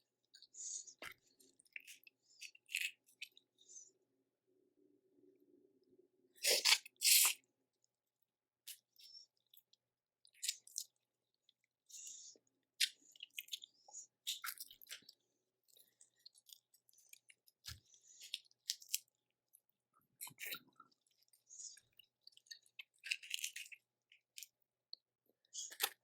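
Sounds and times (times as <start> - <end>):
crunching and chewing seafood: 0.2 - 3.8, 6.4 - 26.0.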